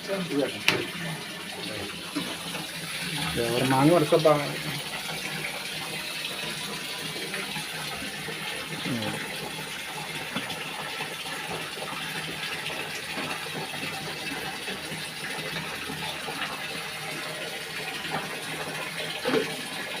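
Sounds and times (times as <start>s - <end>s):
water rushing in washing machine: 0.0s - 20.0s.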